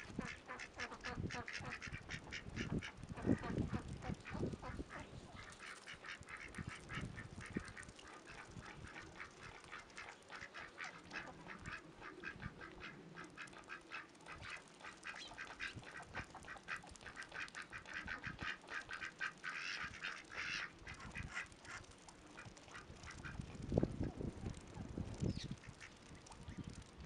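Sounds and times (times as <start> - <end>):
ducks and geese calling: 0.0 - 23.9, 25.2 - 26.7.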